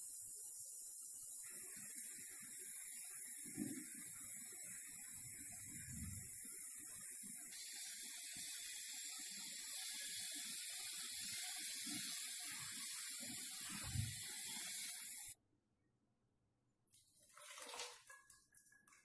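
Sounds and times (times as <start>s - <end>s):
pressure cooker hissing: 0.0s - 15.4s.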